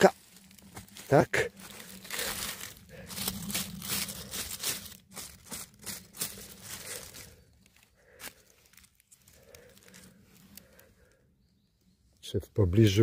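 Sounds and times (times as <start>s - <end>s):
dry leaves rustling and crackling: 0.0s - 10.8s.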